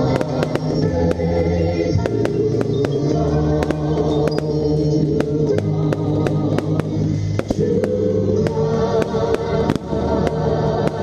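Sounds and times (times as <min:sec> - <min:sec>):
fireworks bangs: 0:00.0 - 0:11.0
loud music: 0:00.0 - 0:11.0.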